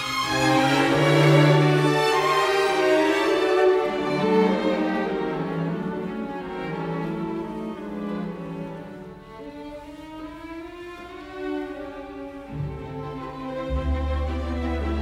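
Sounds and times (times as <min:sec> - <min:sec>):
slow bowed strings music: 0:00.0 - 0:15.0.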